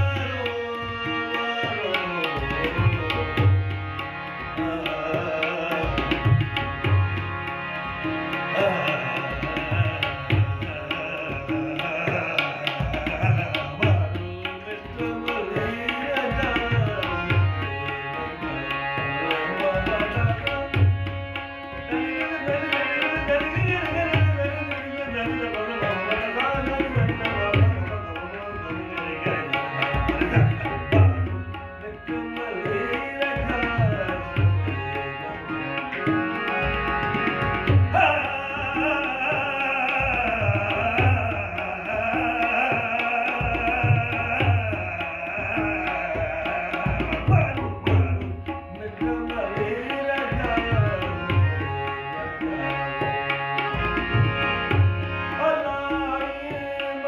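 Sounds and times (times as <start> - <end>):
harmonium chords and melody: 0.0 - 57.0
tabla rhythm: 0.0 - 57.0.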